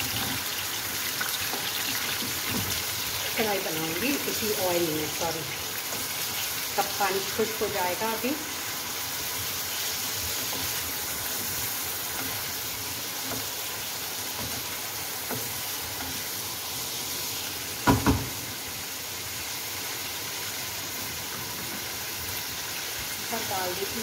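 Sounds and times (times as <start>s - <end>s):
prawns frying in hot oil: 0.0s - 24.0s.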